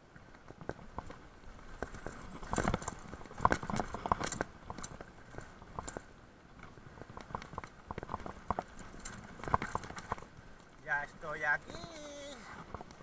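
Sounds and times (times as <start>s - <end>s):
bike tyres crunching over stones: 0.1s - 13.0s.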